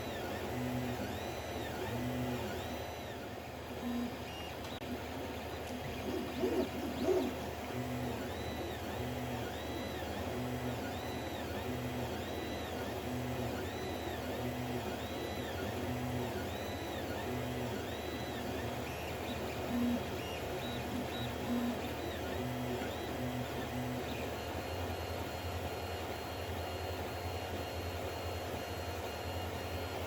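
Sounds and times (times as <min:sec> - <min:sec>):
stepper motors whining: 0:00.0 - 0:29.7
rough printer noises: 0:00.0 - 0:30.0.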